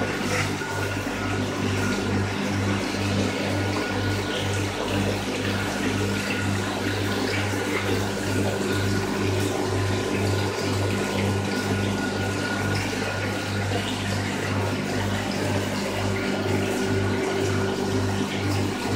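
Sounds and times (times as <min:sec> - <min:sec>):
water pump humming: 0:00.0 - 0:18.9
water splashing and trickling: 0:00.0 - 0:18.9.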